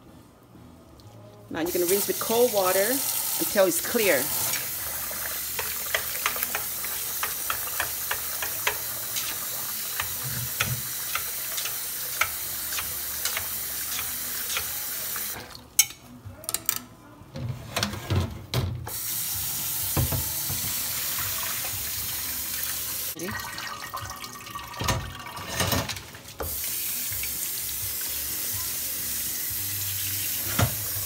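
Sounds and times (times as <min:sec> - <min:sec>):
faucet water running into pot: 0:01.6 - 0:15.4, 0:18.9 - 0:31.0.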